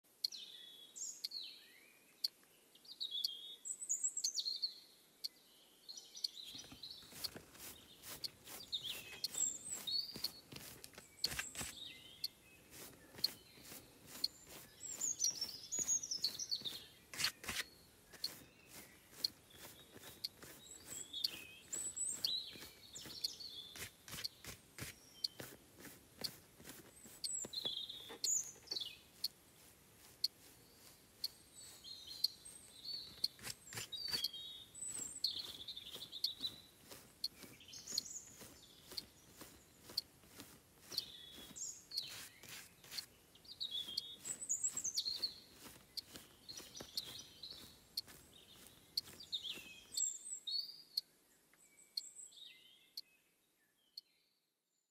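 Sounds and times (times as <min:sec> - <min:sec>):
birds chirping: 0:00.1 - 0:54.2.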